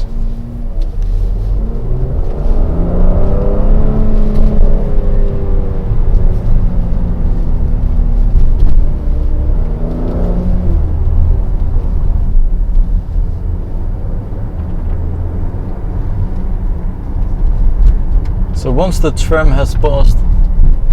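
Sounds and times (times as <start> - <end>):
car engine from inside cabin: 0.0 - 20.9.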